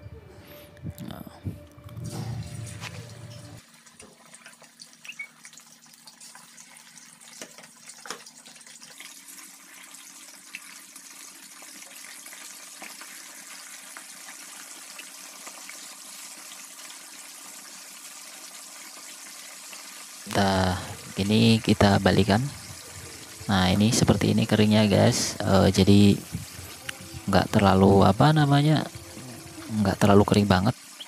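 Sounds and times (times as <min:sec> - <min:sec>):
oil popping and crackling: 0:02.7 - 0:27.7
fish deep-frying in hot oil: 0:03.1 - 0:31.0.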